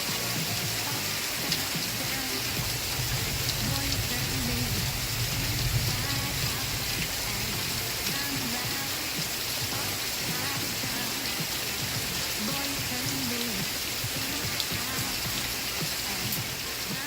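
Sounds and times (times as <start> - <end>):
muffled tv music: 0.0 - 17.0
steady rain falling: 0.0 - 17.0.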